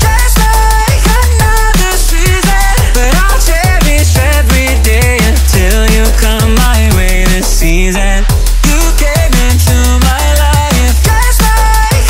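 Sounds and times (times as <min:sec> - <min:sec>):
deep bass: 0:00.0 - 0:12.0
drum beat: 0:00.0 - 0:12.0
electronic music: 0:00.0 - 0:12.0.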